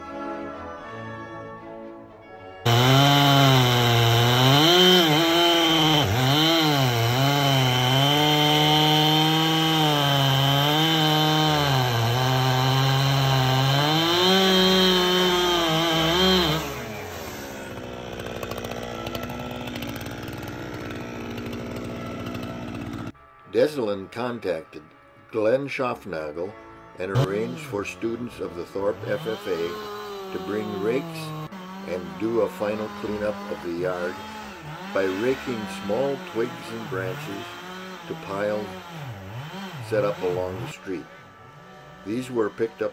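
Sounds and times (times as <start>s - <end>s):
chainsaw cutting wood: 2.6s - 23.2s, 27.1s - 42.9s.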